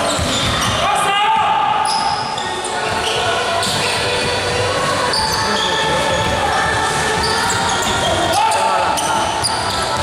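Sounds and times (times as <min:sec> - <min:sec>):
shoe squeaks on court: 0:00.0 - 0:00.8, 0:01.8 - 0:06.4, 0:07.2 - 0:10.0.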